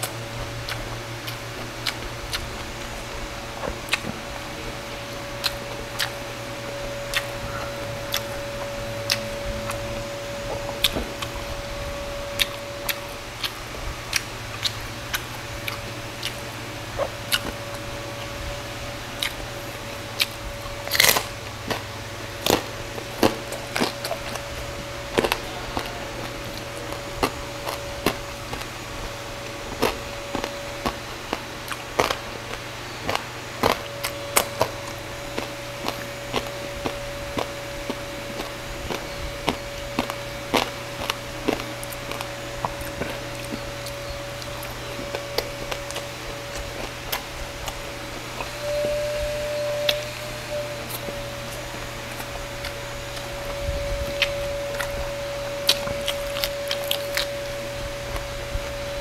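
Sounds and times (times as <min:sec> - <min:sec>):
crunching and chewing crispy food: 0:00.0 - 0:59.0
steady low hum: 0:00.0 - 0:59.0.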